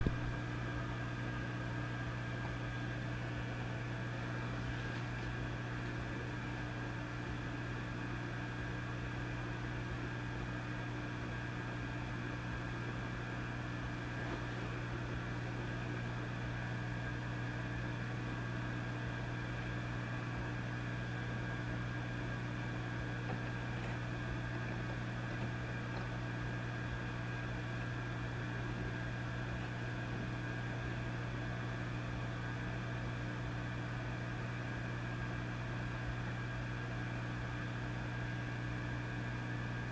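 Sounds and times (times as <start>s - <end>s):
amplifier electrical hum: 0.0s - 39.9s.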